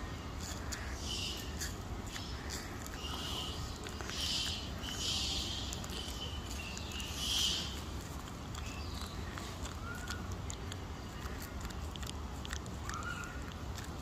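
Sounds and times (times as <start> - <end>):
monkeys calling: 0.0 - 14.0.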